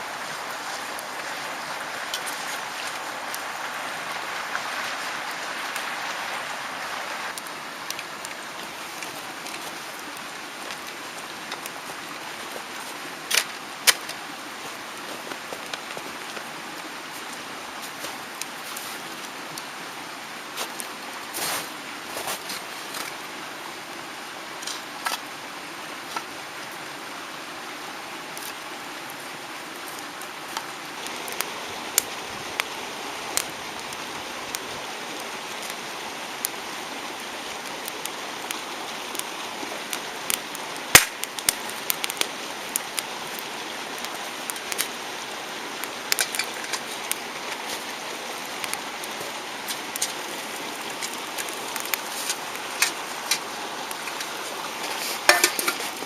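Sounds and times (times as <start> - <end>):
campfire crackling and popping: 0.0 - 56.0
stream water rushing: 0.0 - 56.0.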